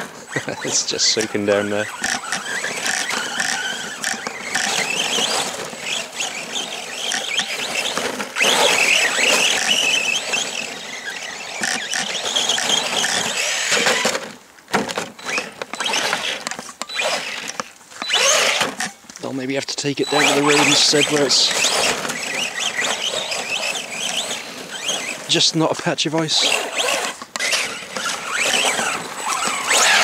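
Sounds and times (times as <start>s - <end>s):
rc truck motor whining: 0.0s - 25.6s, 26.2s - 30.0s.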